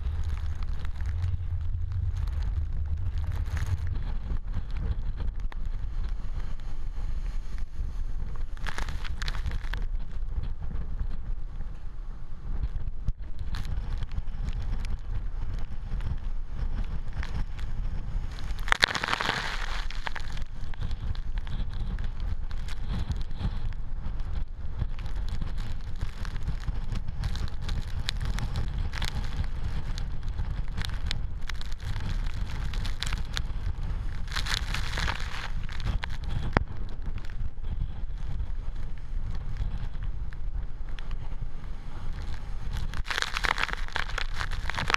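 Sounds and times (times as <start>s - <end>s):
rain and spray ticking on camera: 0.0s - 11.3s, 12.6s - 44.9s
wind buffeting microphone: 0.0s - 44.9s.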